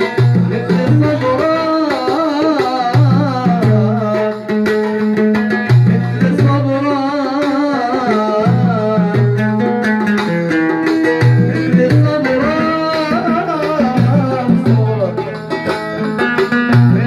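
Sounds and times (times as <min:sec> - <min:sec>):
man singing into microphone: 0:00.0 - 0:09.8, 0:11.4 - 0:15.2
oud: 0:00.0 - 0:17.0
percussion beat: 0:00.0 - 0:17.0.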